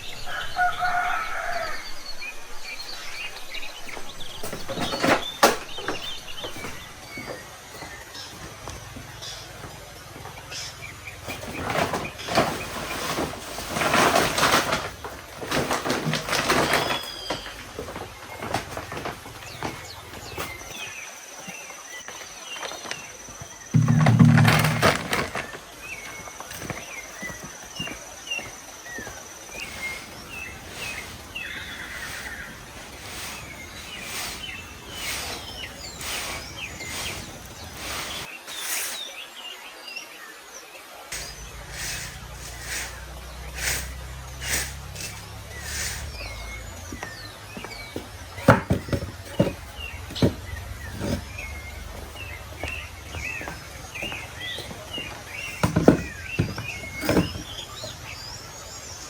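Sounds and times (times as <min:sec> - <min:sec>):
birds chirping: 0:00.0 - 0:39.6, 0:41.1 - 0:59.0
knocking clattering and scraping: 0:03.4 - 0:20.9, 0:23.7 - 0:38.3, 0:41.2 - 0:58.2.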